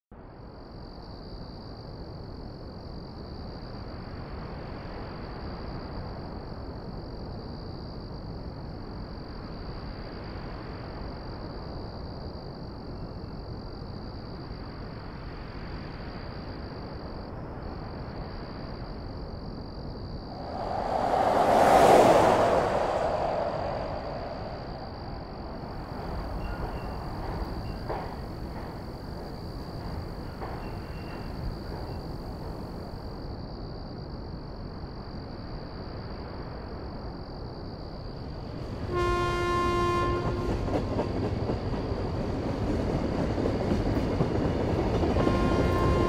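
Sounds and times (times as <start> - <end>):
open-country ambience hiss: 0.3 - 40.2.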